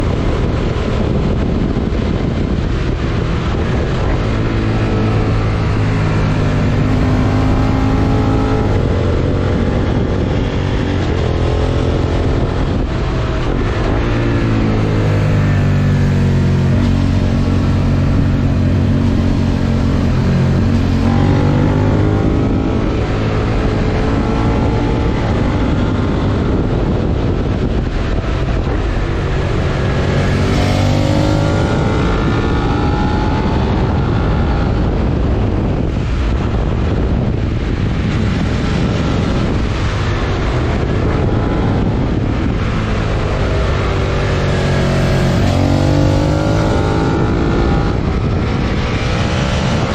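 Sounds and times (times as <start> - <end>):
wind rushing: 0.0 - 49.9.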